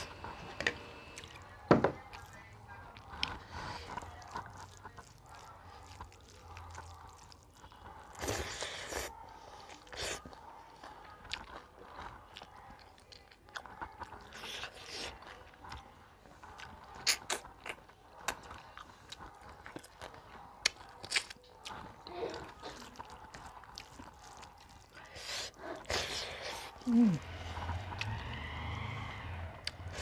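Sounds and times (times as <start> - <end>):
person chewing food: 0.0 - 28.7, 29.4 - 30.0.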